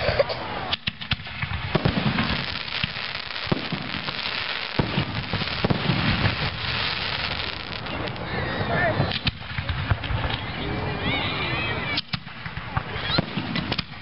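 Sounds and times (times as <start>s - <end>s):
fireworks crackling: 0.4s - 14.0s
fireworks bangs: 0.6s - 10.5s, 11.8s - 14.0s.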